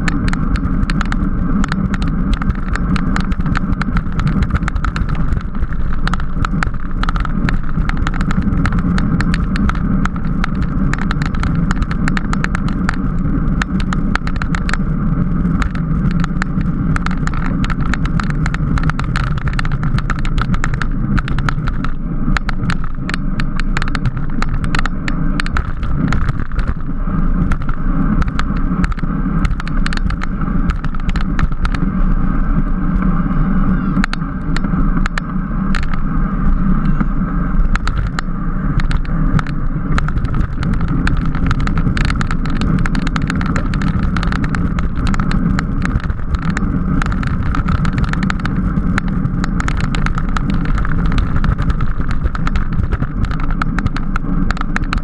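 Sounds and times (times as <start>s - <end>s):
small rattling clicks: 0.0s - 31.9s, 34.0s - 36.1s, 37.7s - 55.0s
bicycle road noise: 0.0s - 55.0s
wind noise: 0.0s - 55.0s.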